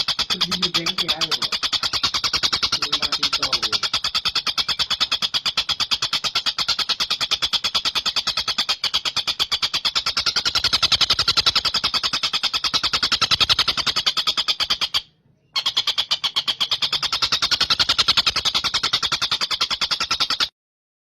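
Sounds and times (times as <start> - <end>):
kingfisher rattling call: 0.0 - 20.5.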